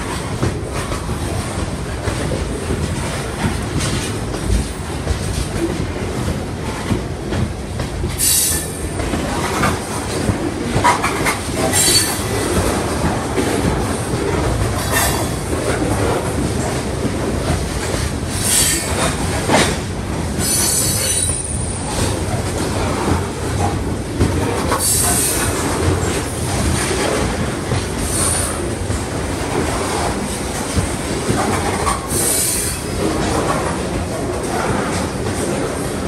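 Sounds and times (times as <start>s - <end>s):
steel wheels rumbling on rails: 0.0s - 36.0s.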